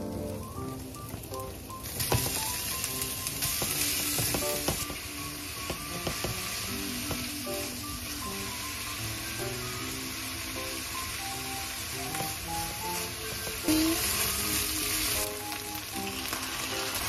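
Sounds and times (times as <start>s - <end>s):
meat sizzling in a frying pan: 0.3s - 17.0s.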